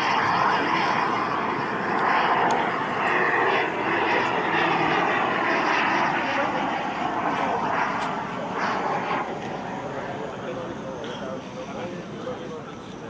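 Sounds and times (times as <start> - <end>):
model jet engine whine: 0.0 - 13.0.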